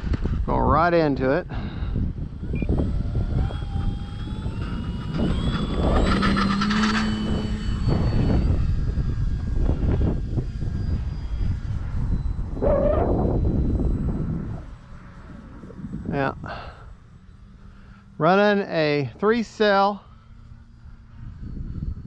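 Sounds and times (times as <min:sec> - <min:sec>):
model plane motor whining: 0:00.0 - 0:22.0
wind rumble on microphone: 0:00.0 - 0:22.0.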